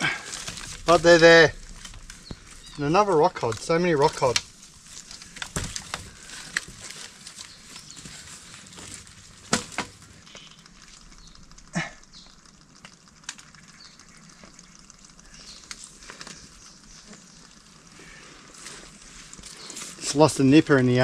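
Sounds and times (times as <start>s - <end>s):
faint crackle of ticks: 0.0s - 21.0s.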